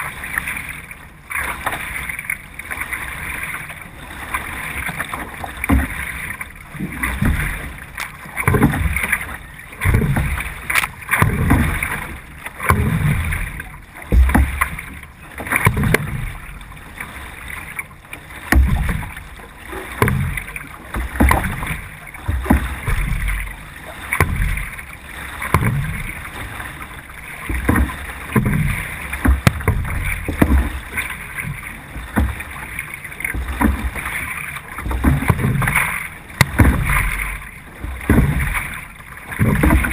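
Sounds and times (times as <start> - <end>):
paddle stroke surge: 0.0 - 39.9
water rushing along canoe hull: 0.0 - 39.9.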